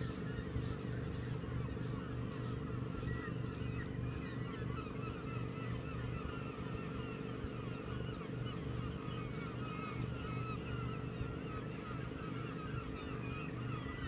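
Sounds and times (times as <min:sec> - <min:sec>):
steady low hum: 0:00.0 - 0:14.0
waterbirds calling: 0:00.0 - 0:14.0.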